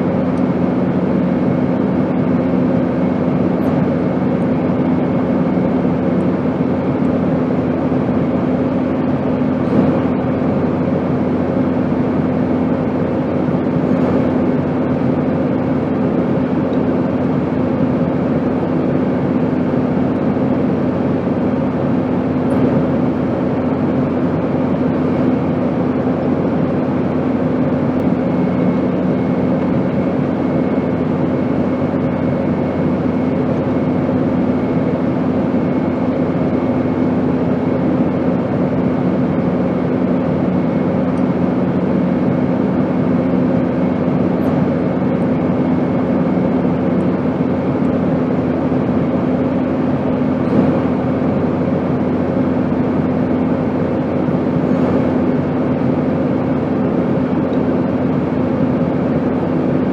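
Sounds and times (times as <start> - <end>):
airplane cabin rushing noise: 0.0 - 59.9
constant low hum: 0.0 - 59.9.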